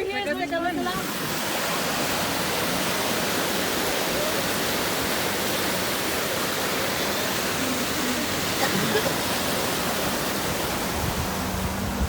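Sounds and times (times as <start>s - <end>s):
heavy rain pouring: 0.6s - 12.0s.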